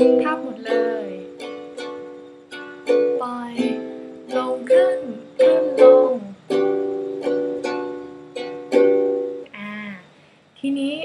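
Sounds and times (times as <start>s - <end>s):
ukulele strumming chords: 0.0s - 9.5s.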